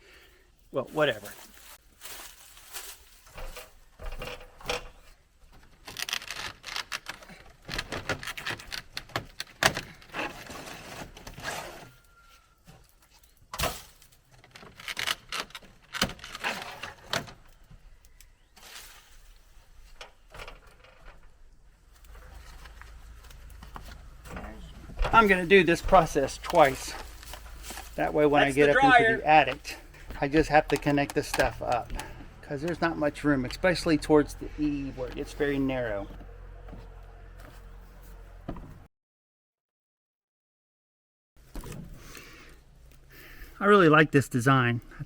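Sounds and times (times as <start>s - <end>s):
hand handling parts: 1.4s - 38.4s.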